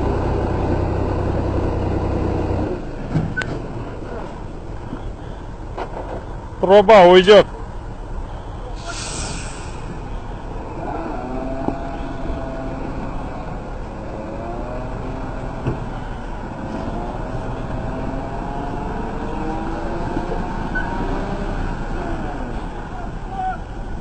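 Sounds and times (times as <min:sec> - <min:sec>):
heavy truck engine under load: 0:00.0 - 0:24.0.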